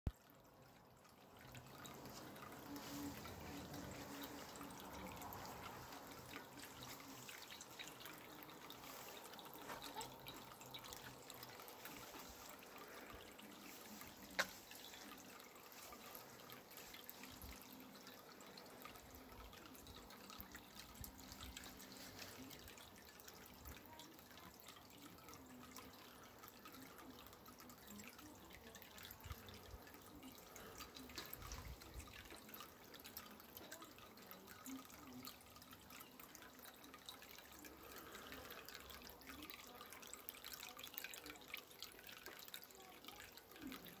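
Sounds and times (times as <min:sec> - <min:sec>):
fountain water trickling: 0:00.1 - 0:44.0.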